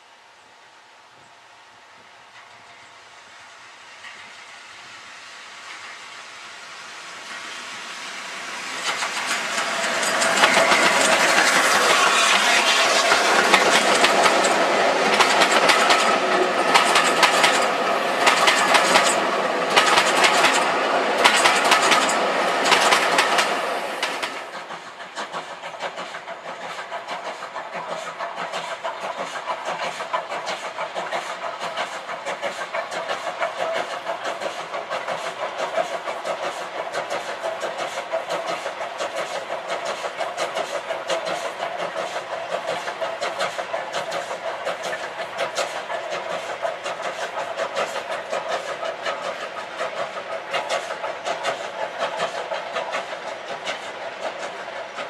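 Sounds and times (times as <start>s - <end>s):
steam locomotive exhaust beat: 0.0s - 55.0s
wheels clicking over rail joints: 8.7s - 55.0s.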